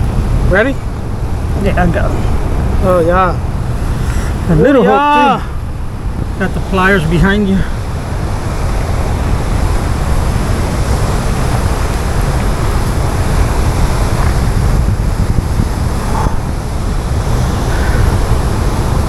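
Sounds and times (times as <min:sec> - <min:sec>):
roar of water at spillway: 0:00.0 - 0:19.0
wind buffeting microphone: 0:00.0 - 0:19.0.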